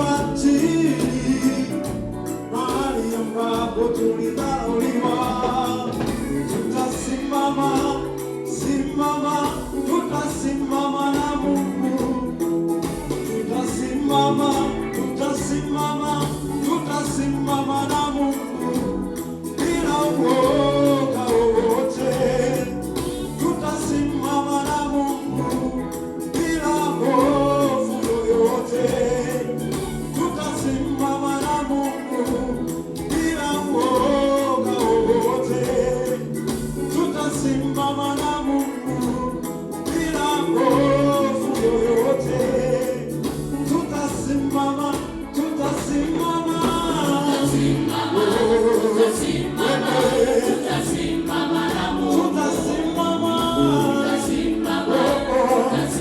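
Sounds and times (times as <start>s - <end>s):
accompaniment with steady beat: 0.0s - 56.0s
choir singing gospel: 0.0s - 56.0s.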